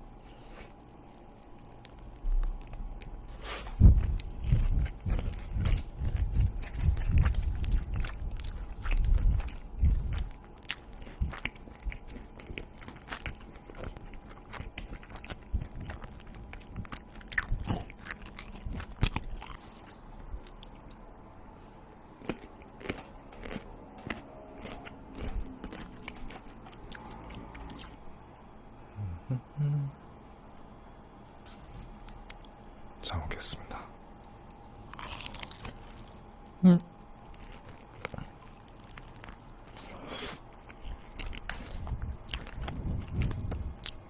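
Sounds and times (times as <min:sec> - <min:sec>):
person chewing crunchy food: 0:00.0 - 0:21.1, 0:21.9 - 0:28.2, 0:34.2 - 0:44.0.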